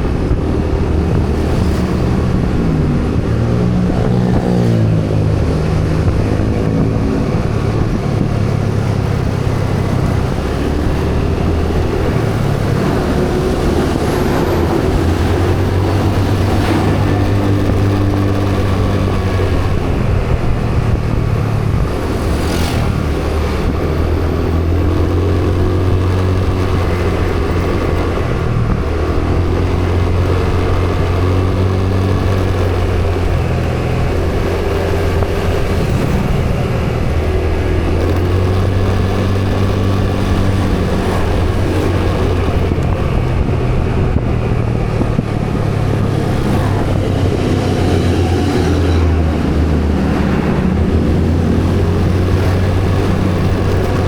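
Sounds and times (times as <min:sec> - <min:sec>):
road and traffic noise: 0:00.0 - 0:54.0
vehicle engine running: 0:00.0 - 0:54.0.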